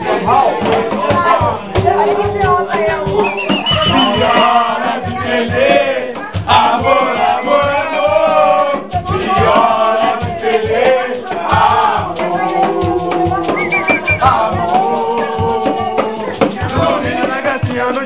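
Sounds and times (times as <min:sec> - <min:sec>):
hand drum beat: 0:00.0 - 0:18.0
men singing samba: 0:00.0 - 0:18.0.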